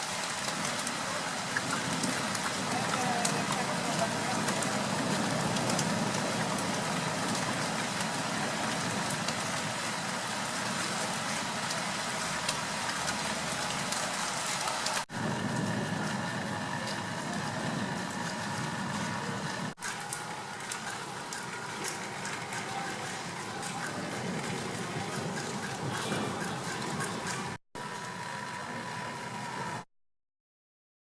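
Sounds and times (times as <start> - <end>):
city traffic rumble: 0.0 - 29.8
steady rain falling: 0.0 - 29.8.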